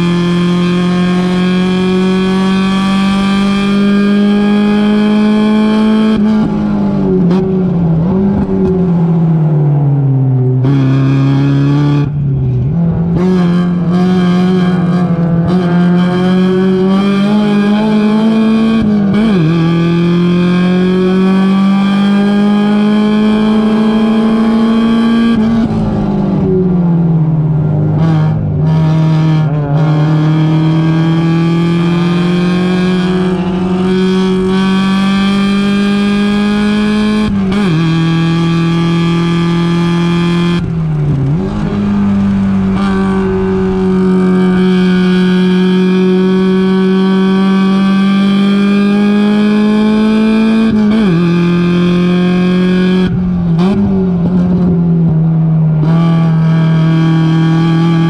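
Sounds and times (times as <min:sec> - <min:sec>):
engine throttle blips: 0:00.0 - 0:58.0
race car engine accelerating: 0:00.0 - 0:58.0.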